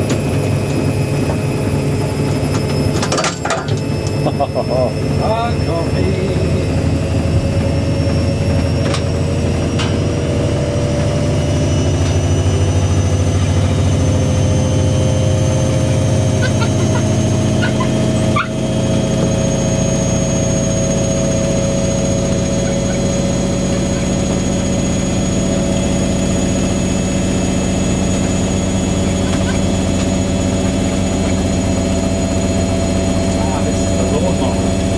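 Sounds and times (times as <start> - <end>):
washing machine motor whine: 0.0 - 34.9
low drum rumble: 4.2 - 34.9.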